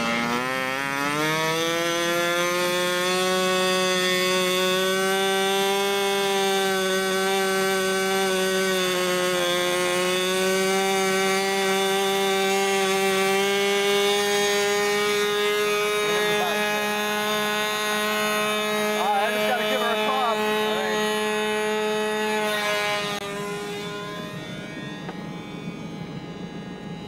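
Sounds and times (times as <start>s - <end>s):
model airplane engine buzzing: 0.0s - 27.0s.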